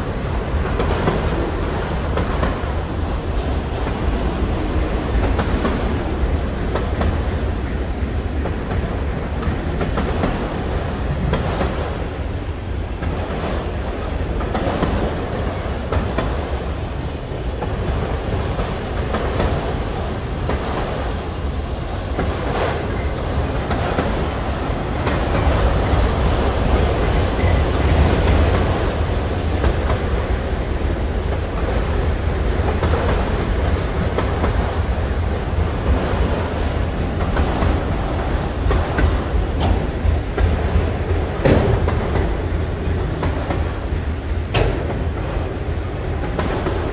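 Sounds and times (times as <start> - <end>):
wheels clicking over rail joints: 0.0 - 21.4, 22.0 - 46.9
freight train rumbling past: 0.0 - 46.9.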